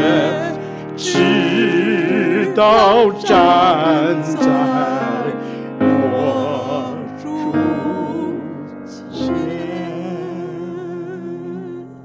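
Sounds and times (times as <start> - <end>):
person singing a hymn: 0.0 - 12.0
piano accompaniment: 0.0 - 12.0.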